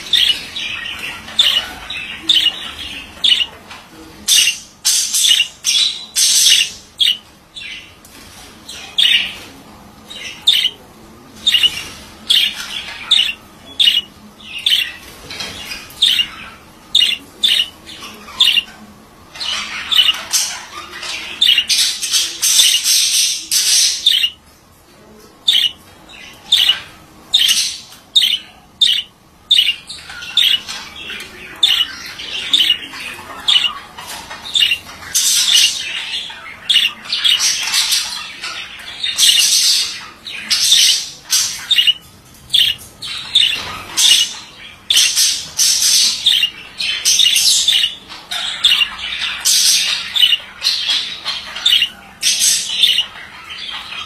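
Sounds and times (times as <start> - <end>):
budgerigar chattering and warbling: 0.1 - 3.6, 4.3 - 7.2, 10.2 - 10.8, 11.4 - 18.8, 19.4 - 24.4, 25.4 - 54.0.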